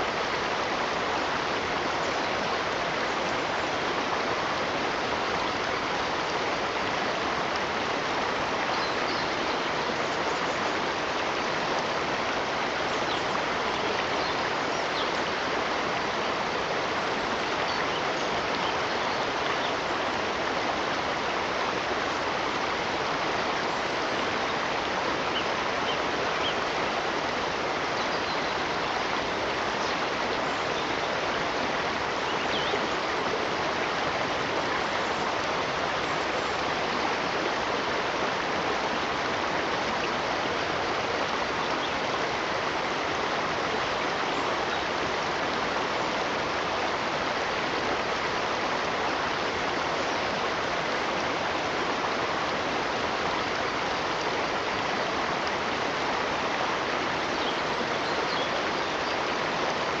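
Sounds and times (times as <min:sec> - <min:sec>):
stream rushing: 0:00.0 - 1:00.0.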